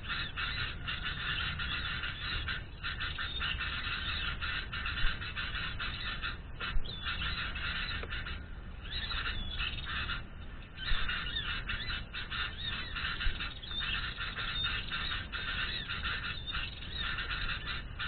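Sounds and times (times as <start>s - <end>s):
birds harsh chattering calls: 0.0s - 18.0s.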